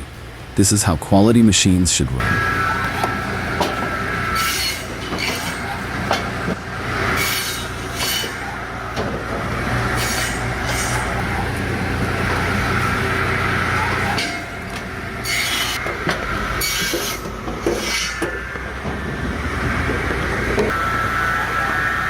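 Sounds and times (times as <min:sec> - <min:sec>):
tractor engine hum: 0:00.0 - 0:22.0
circular saw cutting wood: 0:02.2 - 0:22.0.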